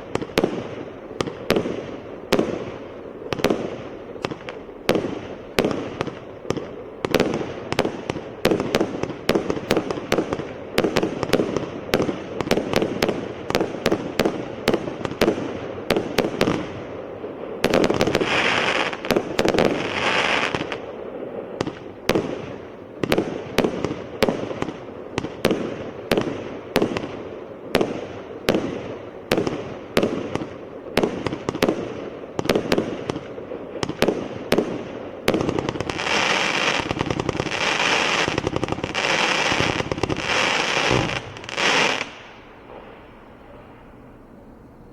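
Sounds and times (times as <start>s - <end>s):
fireworks shots and bursts: 0.0s - 44.9s
loud fireworks hiss: 0.0s - 44.9s.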